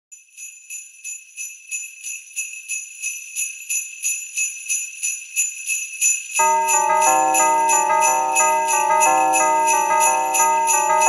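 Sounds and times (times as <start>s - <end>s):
sleigh bells shaken: 0.1s - 11.0s.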